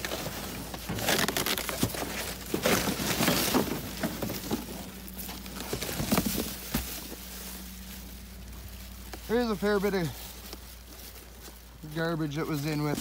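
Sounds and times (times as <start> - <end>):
cardboard and plastic bag rustling: 0.0 - 13.0
steady low hum: 0.0 - 13.0.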